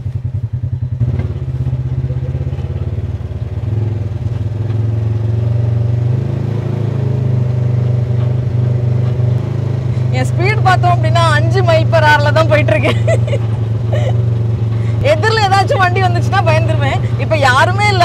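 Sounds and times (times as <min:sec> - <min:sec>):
off-road vehicle engine: 0:00.0 - 0:18.0.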